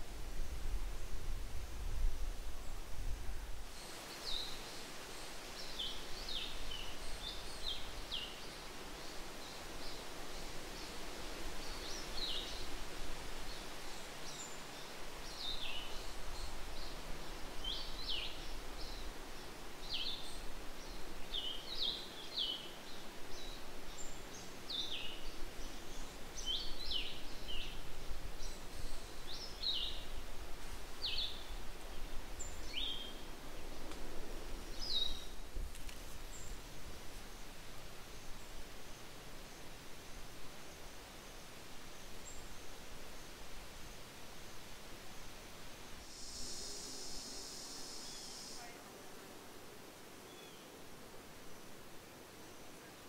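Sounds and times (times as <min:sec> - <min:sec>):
forest ambience hiss: 0:00.0 - 0:53.0.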